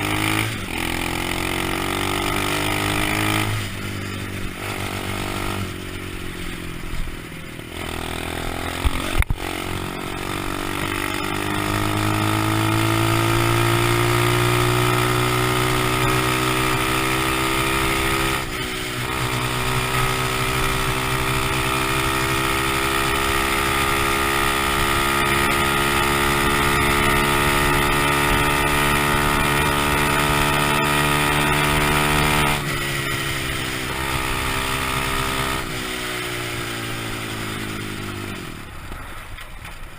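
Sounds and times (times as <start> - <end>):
pit bike engine: 0.0 - 39.9.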